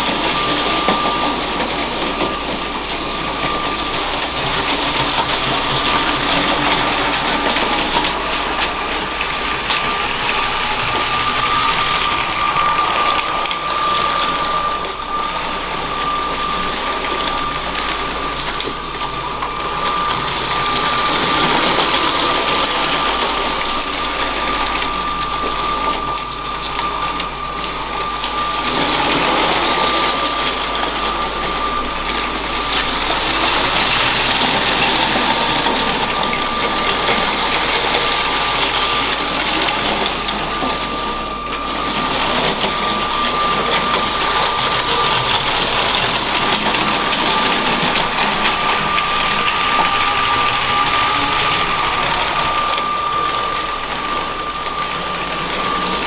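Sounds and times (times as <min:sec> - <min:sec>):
electric motor whining: 0:00.0 - 0:56.0
wheels rattling on plastic track: 0:00.0 - 0:56.0.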